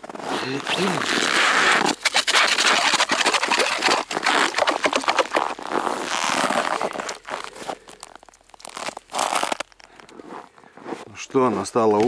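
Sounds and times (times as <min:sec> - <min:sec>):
ice and snow scraping: 0:00.0 - 0:11.9.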